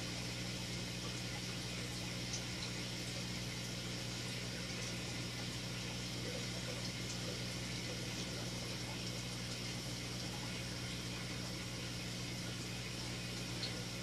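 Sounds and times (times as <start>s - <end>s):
aquarium pump hum: 0.0s - 14.0s
water bubbling and trickling: 0.2s - 14.0s
small ticks: 0.9s - 14.0s.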